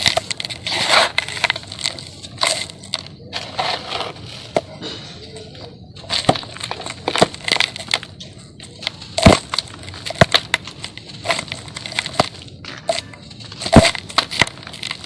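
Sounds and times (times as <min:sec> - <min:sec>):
sand-cement chunks crumbling: 0:00.0 - 0:15.0.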